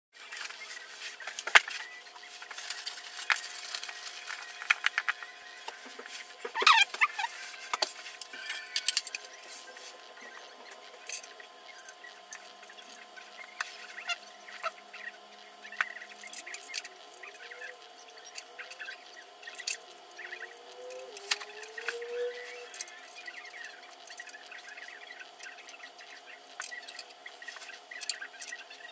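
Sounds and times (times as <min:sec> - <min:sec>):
faint steady hum: 0:00.2 - 0:28.9.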